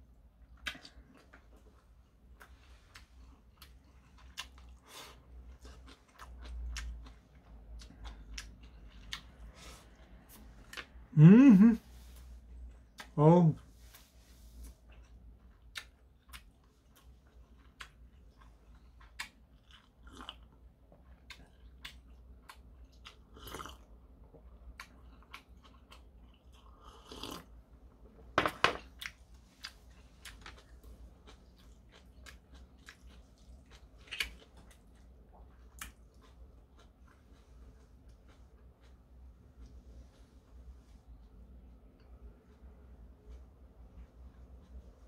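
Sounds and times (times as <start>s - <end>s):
person chewing food: 0.0s - 11.1s, 12.2s - 28.1s, 28.8s - 45.0s.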